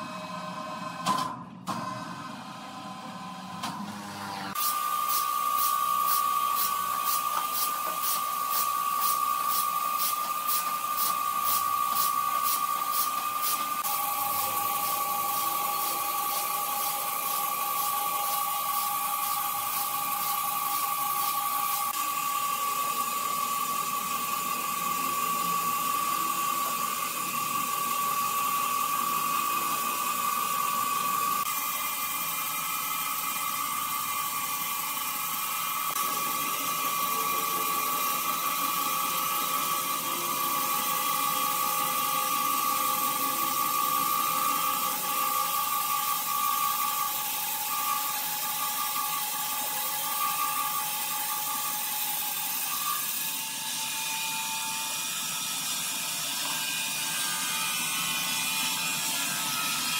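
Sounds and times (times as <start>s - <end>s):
sawmill machinery whine: 1.7s - 59.9s.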